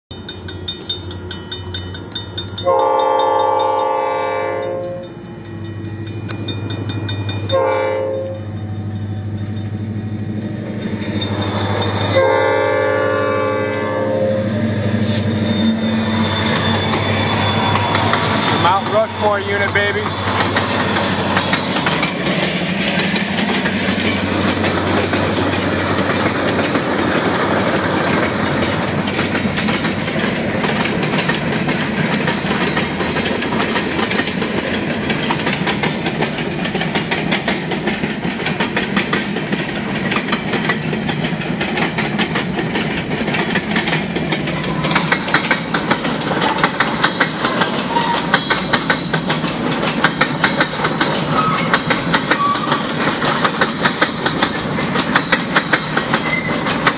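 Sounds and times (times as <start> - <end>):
clickety-clack over rail joints: 0.1 - 12.8, 16.4 - 56.9
train wheels rumbling on rail: 0.1 - 56.9.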